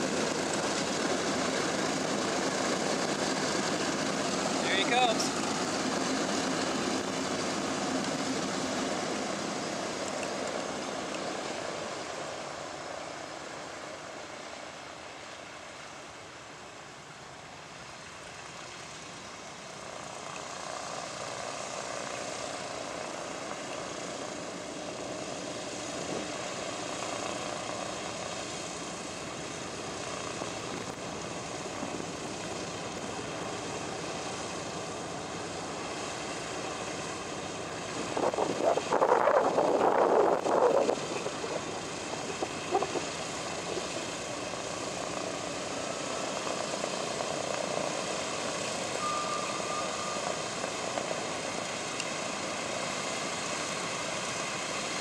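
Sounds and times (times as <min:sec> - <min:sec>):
piston aircraft engines droning: 0:00.0 - 0:55.0.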